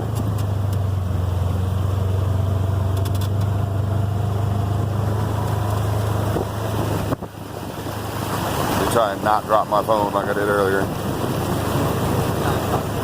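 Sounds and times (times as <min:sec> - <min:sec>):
utility vehicle engine droning: 0:00.0 - 0:13.0.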